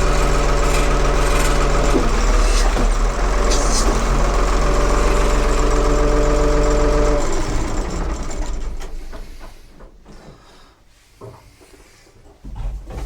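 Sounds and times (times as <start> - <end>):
backhoe engine running: 0.0 - 10.6.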